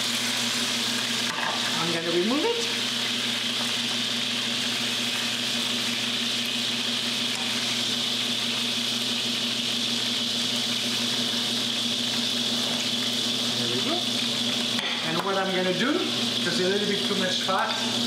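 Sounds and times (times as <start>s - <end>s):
chicken sizzling in a skillet: 0.0s - 18.0s.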